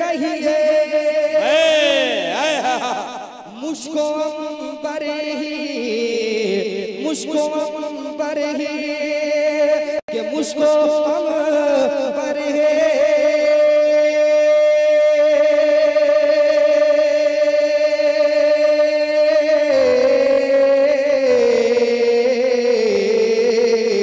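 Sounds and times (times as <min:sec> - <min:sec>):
man singing into a microphone: 0:00.0 - 0:24.0.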